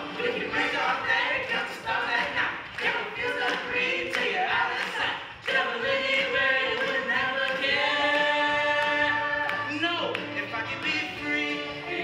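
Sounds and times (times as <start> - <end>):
choir singing: 0.0 - 9.8, 10.6 - 12.0.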